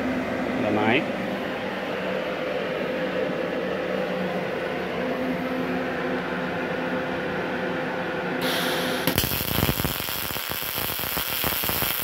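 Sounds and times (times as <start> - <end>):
cooling fan running: 0.0 - 12.0
electrical hum: 0.0 - 12.0.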